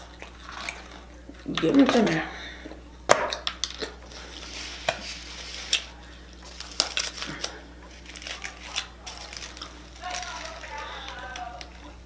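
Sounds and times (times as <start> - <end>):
person chewing crunchy food: 0.0 - 1.5, 3.3 - 12.0.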